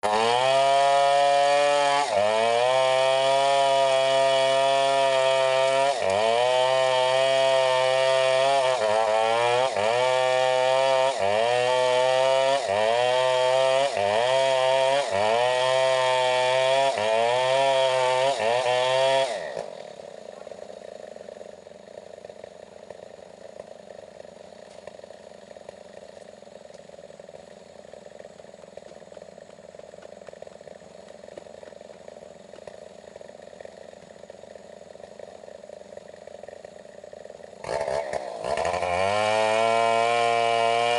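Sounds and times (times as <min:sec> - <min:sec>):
chainsaw idling: 0:00.0 - 0:40.9
chainsaw running at high revs: 0:00.0 - 0:40.9.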